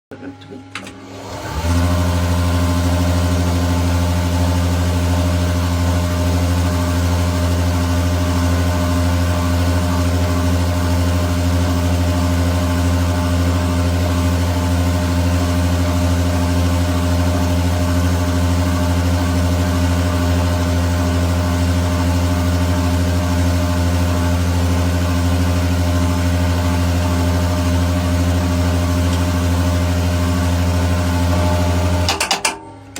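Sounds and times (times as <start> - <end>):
machine motor humming: 0.1 - 32.3.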